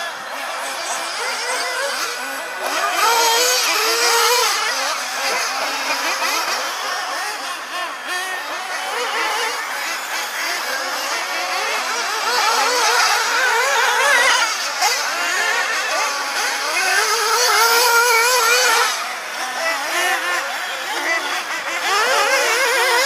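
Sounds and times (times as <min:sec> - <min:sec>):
rc buggy motors whining: 0:00.0 - 0:23.0.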